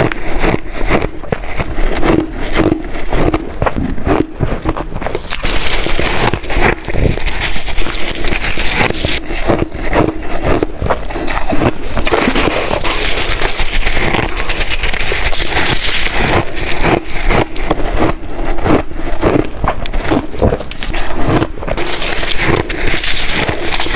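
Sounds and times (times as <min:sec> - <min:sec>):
ice being chewed: 0:00.0 - 0:23.9.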